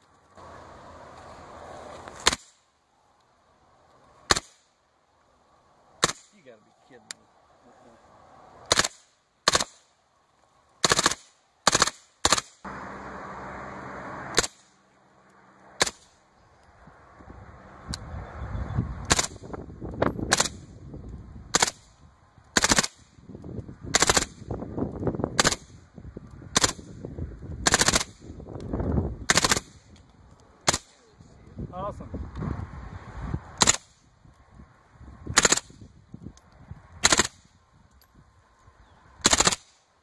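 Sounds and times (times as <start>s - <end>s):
steady rush of noise: 0.0s - 40.0s.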